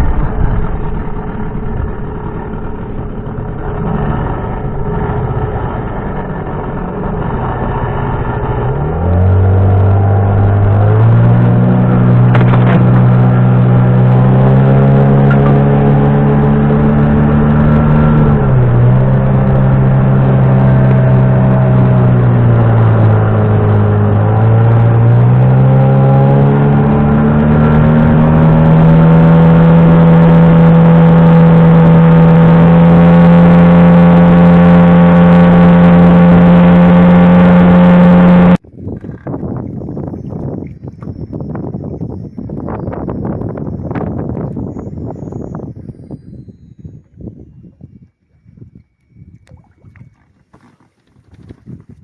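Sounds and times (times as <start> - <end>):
boat outboard motor running: 0.0 - 52.0
wind noise: 0.0 - 52.0.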